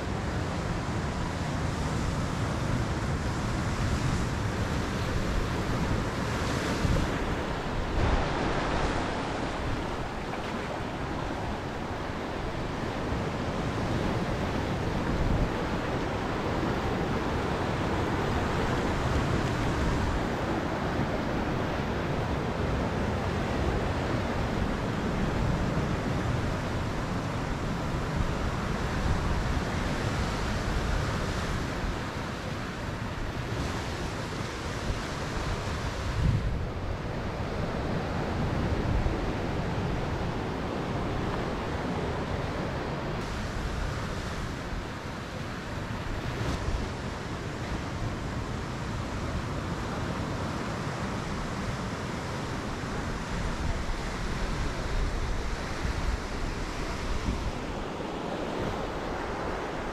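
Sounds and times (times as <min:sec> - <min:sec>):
ocean surf on rocky shore: 0:00.0 - 0:59.9
wind gusting over microphone: 0:00.0 - 0:59.9.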